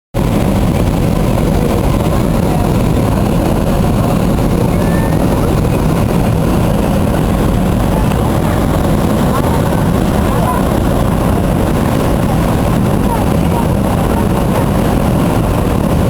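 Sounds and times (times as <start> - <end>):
airliner engines droning: 0.2 - 16.0
rushing air: 0.2 - 16.0.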